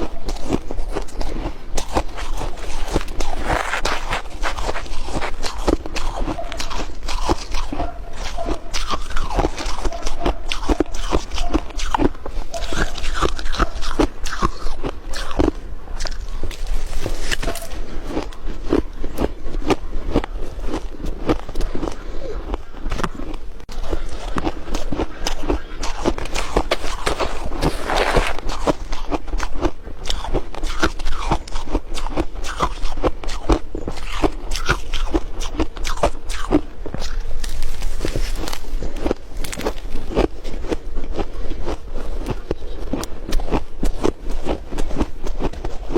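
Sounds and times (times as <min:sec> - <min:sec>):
chewing and crunching ice: 0:00.0 - 0:45.9.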